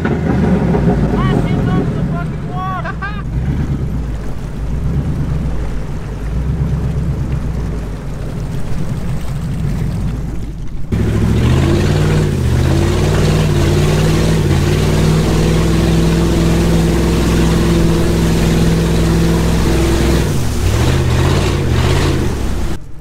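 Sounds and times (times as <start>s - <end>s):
truck engine pulling hard: 0.0s - 23.0s
water rushing and splashing: 0.0s - 23.0s.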